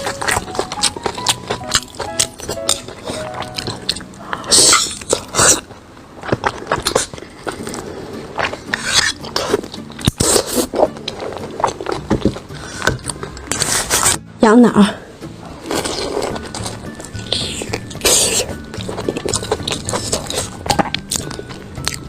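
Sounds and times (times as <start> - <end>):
person biting and chewing food: 0.0 - 14.2, 15.5 - 22.0.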